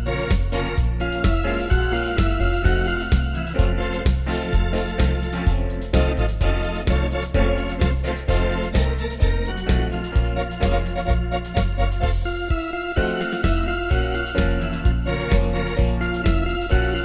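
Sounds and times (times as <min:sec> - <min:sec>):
bass notes: 0:00.0 - 0:17.0
drum machine percussion: 0:00.0 - 0:17.0
electronic organ chords: 0:00.0 - 0:17.0.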